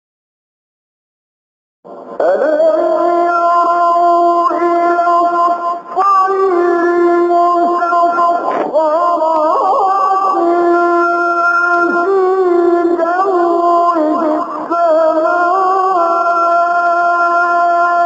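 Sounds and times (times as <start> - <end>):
man chanting melodically: 2.2 - 18.0.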